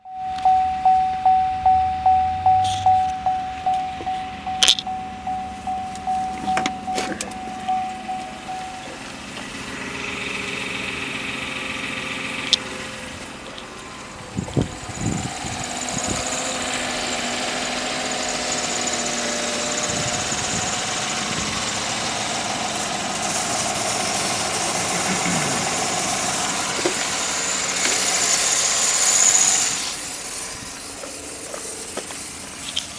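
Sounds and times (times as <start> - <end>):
steady beeping tone: 0.0 - 27.8
car engine starting and running: 0.0 - 32.9.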